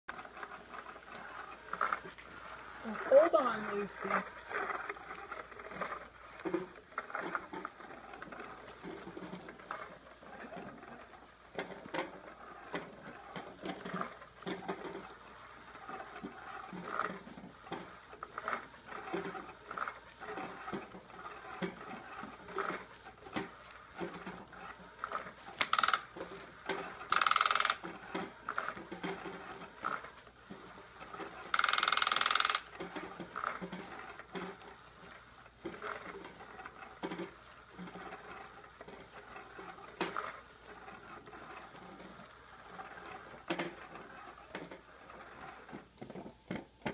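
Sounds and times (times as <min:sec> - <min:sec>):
cat toy whirring: 0:00.1 - 0:46.3
rustles and clicks: 0:00.1 - 0:46.9.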